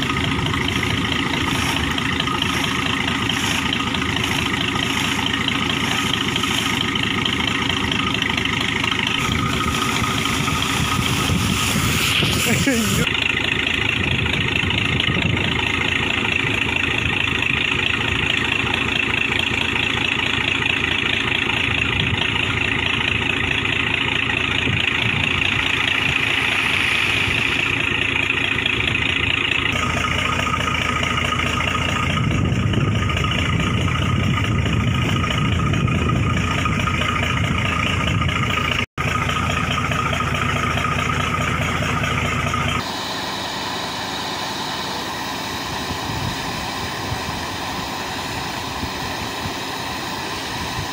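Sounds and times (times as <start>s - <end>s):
air compressor engine droning: 0.0s - 50.9s.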